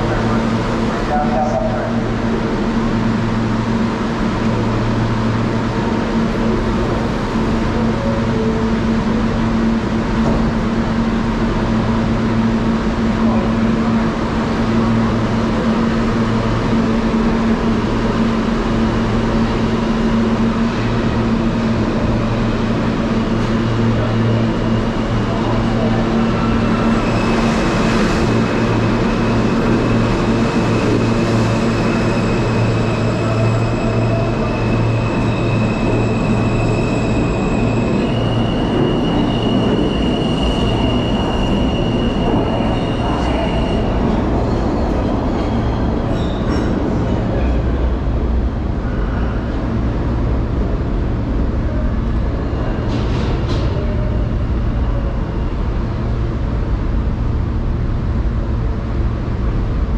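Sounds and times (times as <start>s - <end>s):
high steady train whine: 0.0s - 59.9s
subway train rumble: 0.0s - 59.9s.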